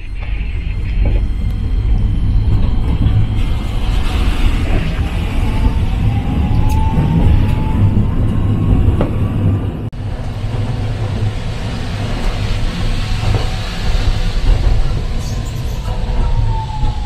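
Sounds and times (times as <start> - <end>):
tram rumbling: 0.0 - 17.0.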